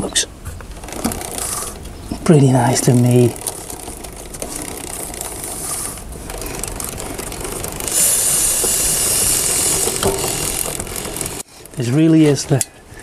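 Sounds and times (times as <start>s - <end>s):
drive chain ticking over sprocket: 0.7s - 11.9s.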